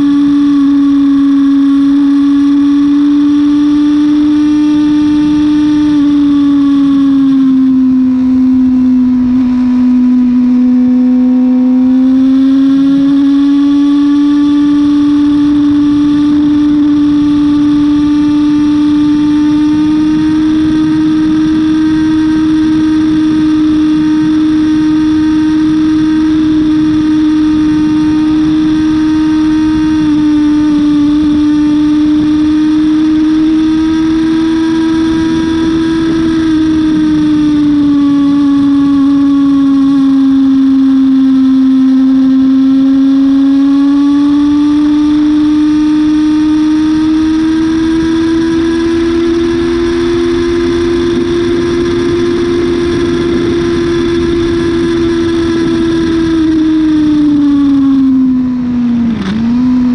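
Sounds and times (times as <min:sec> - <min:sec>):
motorcycle engine revving high: 0:00.0 - 0:59.9
wind rush: 0:03.9 - 0:41.4, 0:43.5 - 0:59.9.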